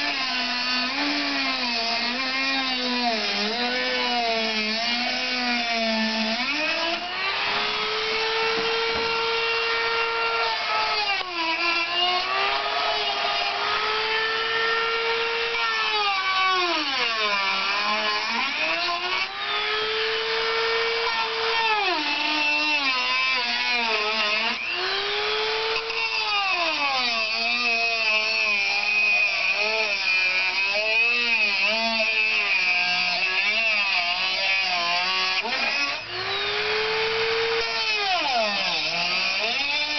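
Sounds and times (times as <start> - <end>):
rotary tool whining while cutting: 0.0 - 39.9.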